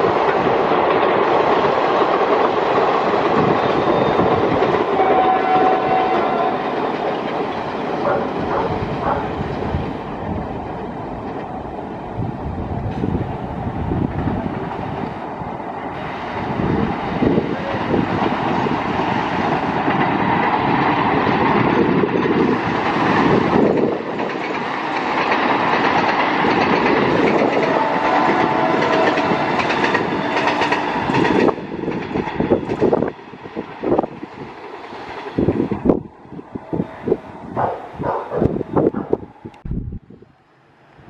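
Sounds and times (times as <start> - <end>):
train wheels rumbling on track: 0.0 - 39.7.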